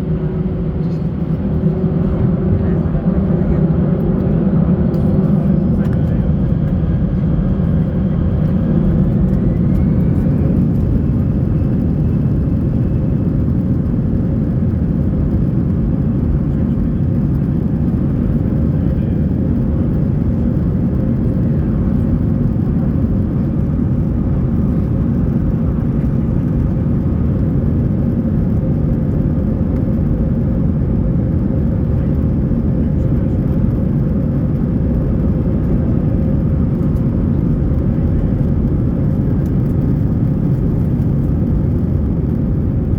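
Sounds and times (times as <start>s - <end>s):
jet engine roar in cabin: 0.0s - 42.9s.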